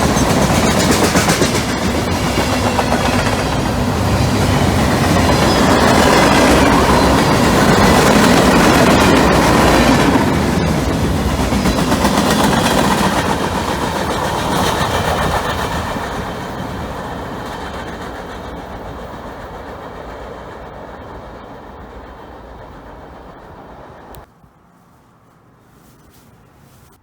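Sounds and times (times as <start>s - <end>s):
train rolling on rails: 0.0s - 24.3s.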